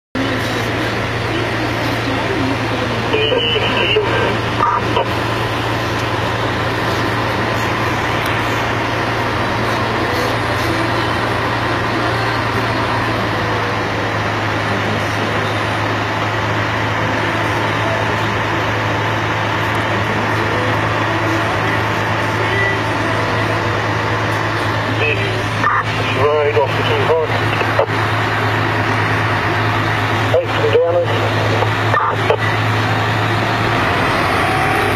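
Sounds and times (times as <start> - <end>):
vehicle engine running: 0.2 - 34.9.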